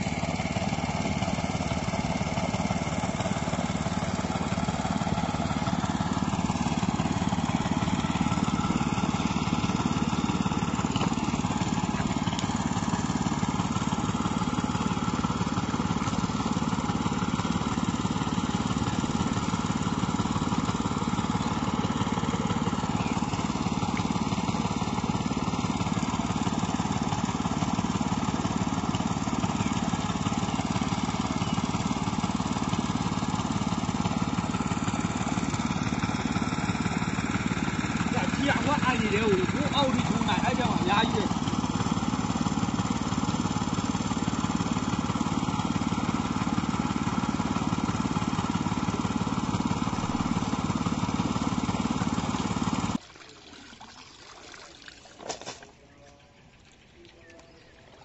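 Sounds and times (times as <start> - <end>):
water pump engine running: 0.0 - 58.0.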